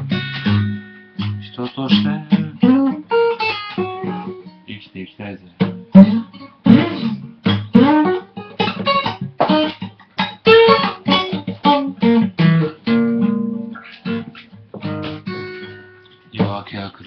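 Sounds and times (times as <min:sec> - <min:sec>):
blues guitar playing: 0:00.0 - 0:17.0.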